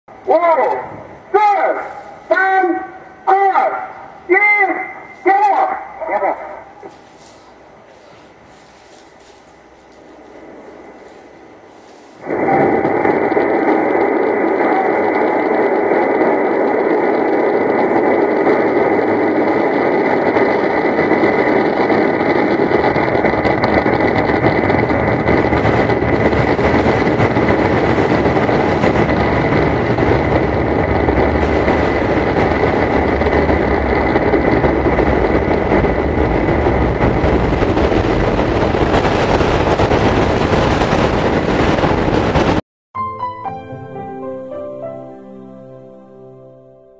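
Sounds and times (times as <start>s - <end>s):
rocket engines firing: 0.1s - 42.6s.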